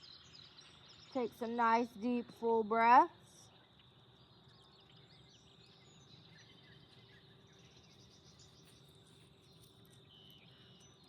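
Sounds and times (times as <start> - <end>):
faint bird chirps: 0.0 - 11.0
insect drone: 0.0 - 11.0.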